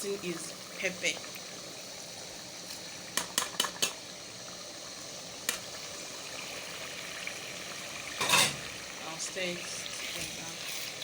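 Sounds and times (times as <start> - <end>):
stew simmering and bubbling: 0.0 - 11.0.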